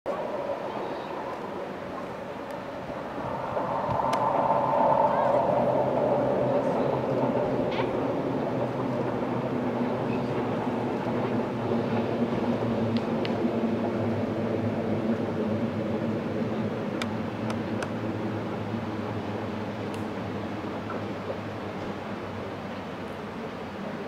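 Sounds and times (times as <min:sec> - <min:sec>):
electric train running on track: 0:00.1 - 0:24.0.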